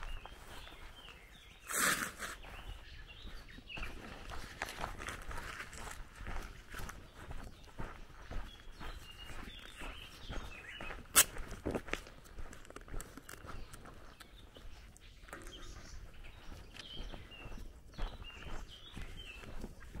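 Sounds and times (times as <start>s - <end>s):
footsteps on gravel: 0.0s - 20.0s
small birds chirping: 0.0s - 20.0s.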